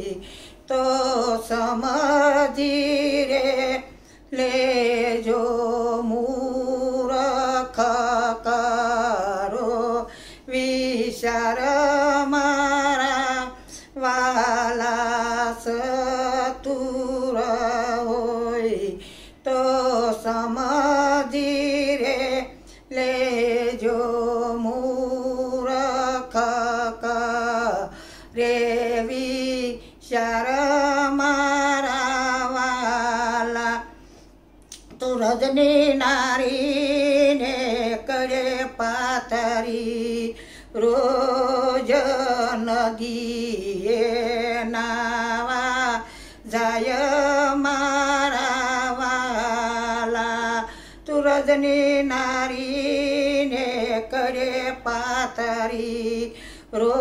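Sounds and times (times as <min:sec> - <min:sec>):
woman singing a devotional hymn: 0:00.0 - 0:57.0.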